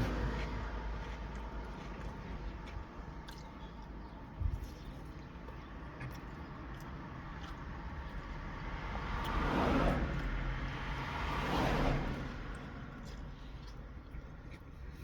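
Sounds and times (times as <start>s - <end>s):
road traffic rumble inside car: 0.0s - 15.0s
vehicles passing: 0.0s - 15.0s.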